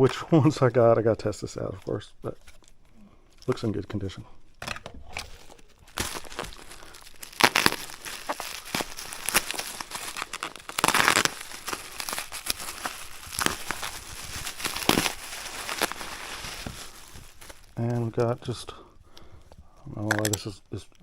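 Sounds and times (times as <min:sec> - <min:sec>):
packing material crinkling: 0:01.5 - 0:18.8.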